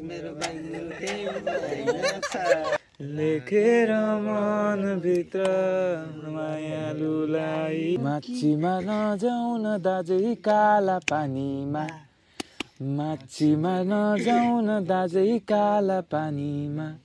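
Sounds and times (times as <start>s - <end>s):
man singing unaccompanied: 0.0s - 12.2s, 12.8s - 17.0s.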